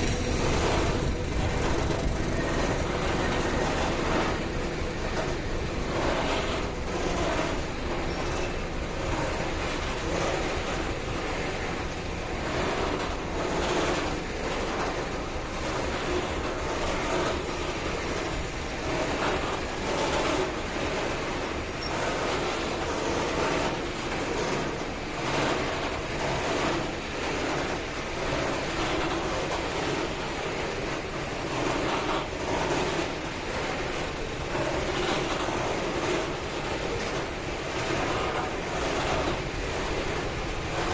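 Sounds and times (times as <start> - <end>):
train rolling past: 0.0 - 40.9.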